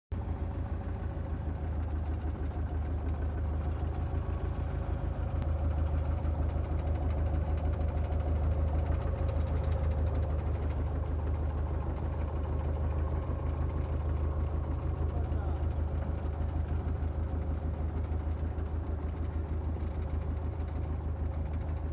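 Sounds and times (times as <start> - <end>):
tractor diesel engine idling: 0.2 - 21.9.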